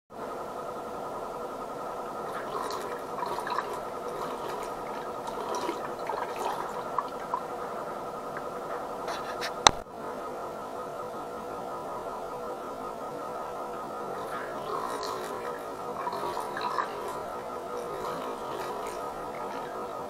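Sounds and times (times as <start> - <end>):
steady hum: 0.1 - 20.0.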